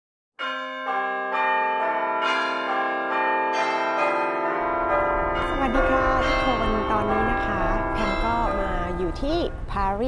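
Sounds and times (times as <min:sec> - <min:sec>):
bells ringing: 0:00.4 - 0:09.7.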